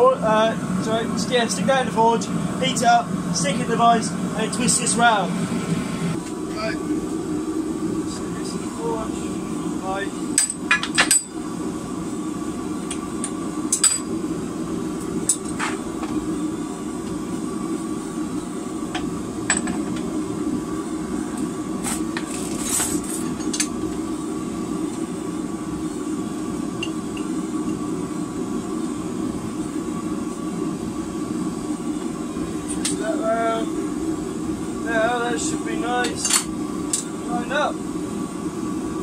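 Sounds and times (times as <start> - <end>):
gas forge burner rushing: 0.0 - 39.0.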